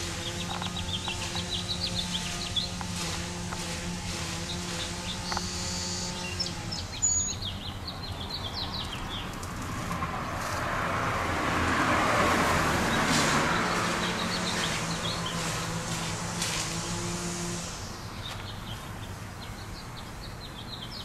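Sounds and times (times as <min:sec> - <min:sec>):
small birds chirping: 0:00.0 - 0:10.7, 0:12.4 - 0:21.0
car passing: 0:00.0 - 0:17.9.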